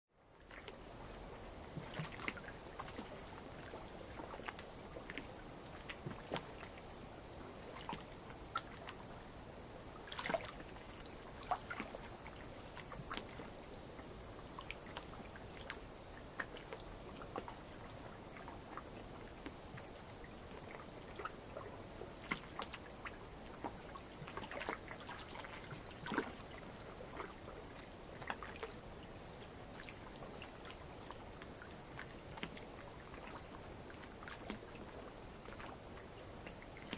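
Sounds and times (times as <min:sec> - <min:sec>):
night insects chorus: 0:00.2 - 0:36.9.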